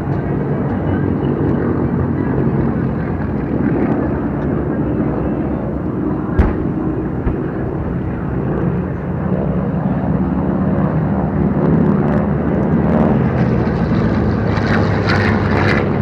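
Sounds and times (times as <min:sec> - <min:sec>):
propeller aircraft engine drone: 0:00.0 - 0:16.0.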